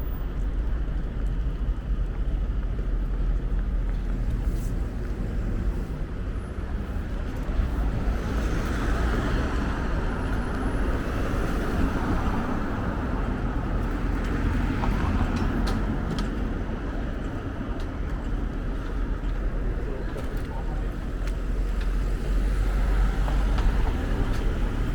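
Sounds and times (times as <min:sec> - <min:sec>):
traffic passing: 0:00.0 - 0:24.9.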